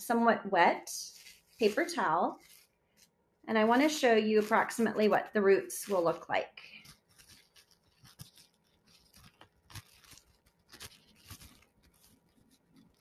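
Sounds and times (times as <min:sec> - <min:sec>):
plastic wrap crinkling: 0:01.0 - 0:13.0.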